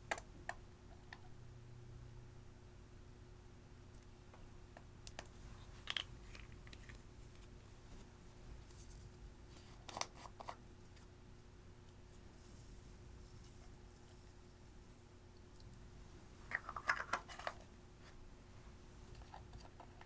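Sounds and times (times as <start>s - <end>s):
faint low room hum: 0.0s - 20.0s.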